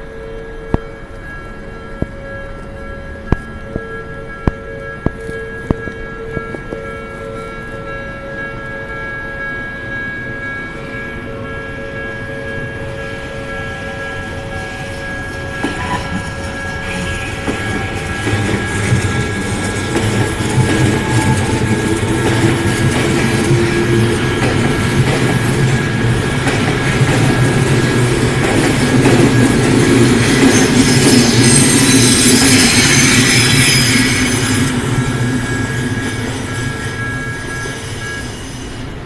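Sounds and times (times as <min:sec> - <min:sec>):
level-crossing alarm tones: 0:00.0 - 0:38.9
electric train passing: 0:00.0 - 0:39.0.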